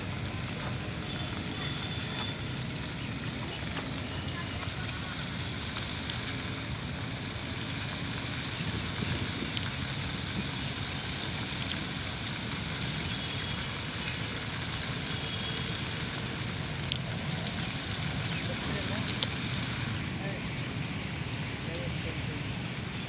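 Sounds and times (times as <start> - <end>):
fountain water splashing: 0.0 - 23.0.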